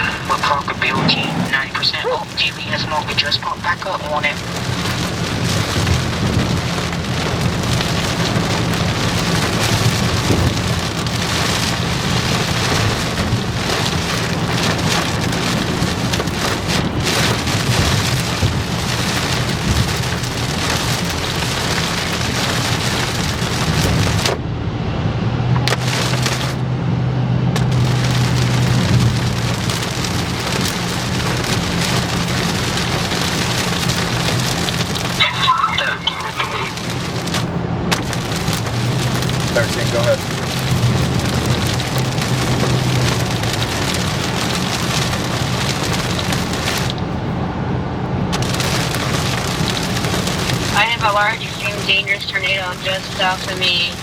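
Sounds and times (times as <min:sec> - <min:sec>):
heavy rain on a vehicle: 0:00.0 - 0:54.0
low vehicle hum: 0:00.0 - 0:54.0.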